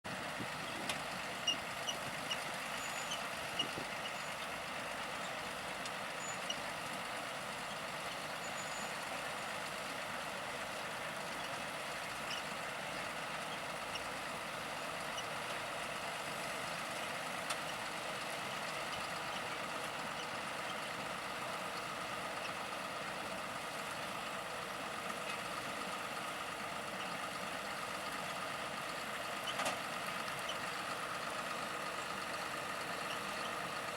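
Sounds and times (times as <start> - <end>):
tractor diesel engine: 0.0 - 33.9
potato harvester running: 0.1 - 33.9.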